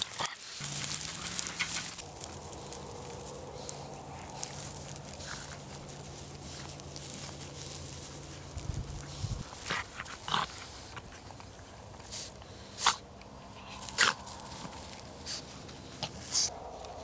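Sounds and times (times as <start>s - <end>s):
dogs snorting and snuffling: 0.0s - 16.6s.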